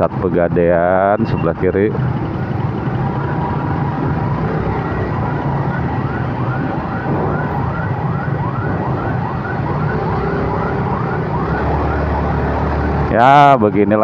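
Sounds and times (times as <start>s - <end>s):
engines idling in traffic: 0.0s - 14.0s
electronic warning siren: 1.1s - 13.2s.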